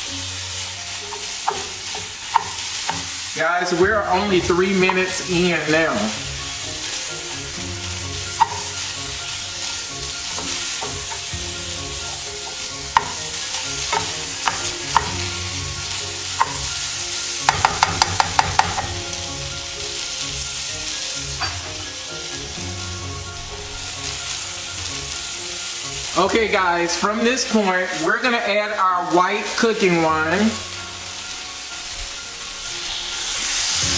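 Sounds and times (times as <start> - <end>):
chicken sizzling in a frying pan: 0.0 - 33.9.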